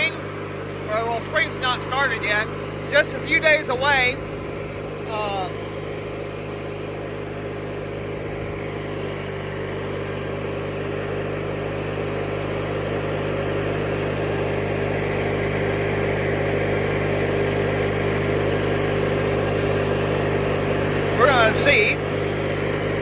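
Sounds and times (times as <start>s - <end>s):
lawnmower engine running: 0.0s - 23.0s.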